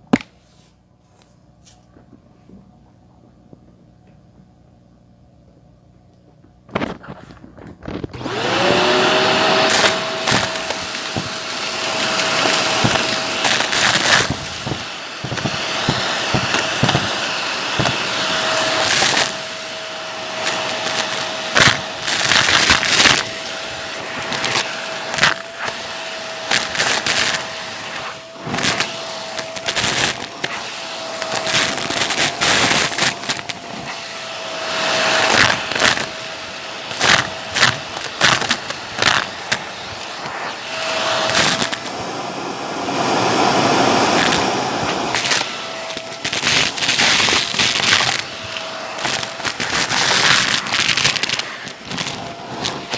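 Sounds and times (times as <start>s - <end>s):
debris crackling in vacuum: 6.7s - 42.1s, 42.8s - 52.9s
vacuum cleaner whine: 6.7s - 52.9s.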